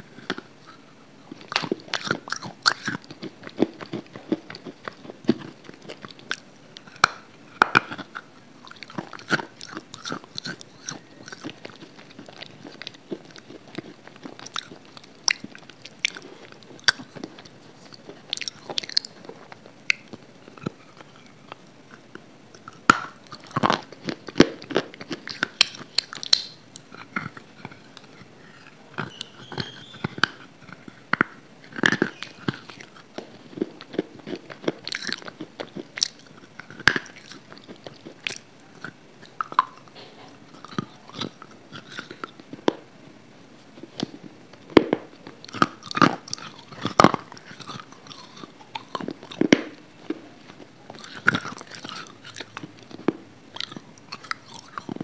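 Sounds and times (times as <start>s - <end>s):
crisp crunching bites: 1.3s - 21.2s, 22.0s - 42.8s, 43.8s - 55.0s.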